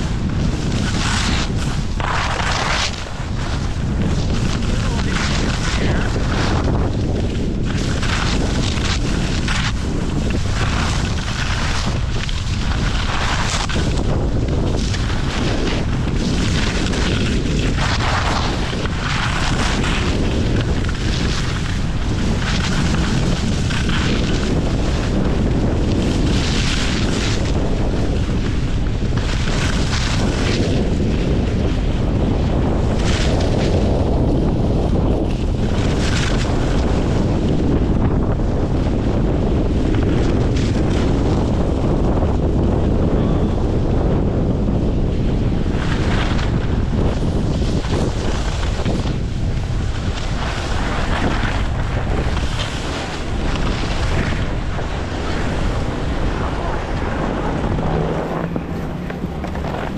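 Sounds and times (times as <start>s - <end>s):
skis carving packed snow: 0.0s - 59.9s
wind buffeting microphone: 0.0s - 59.9s.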